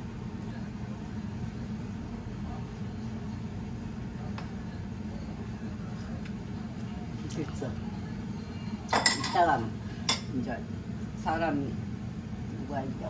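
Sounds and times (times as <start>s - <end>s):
low kitchen hum: 0.0s - 13.0s.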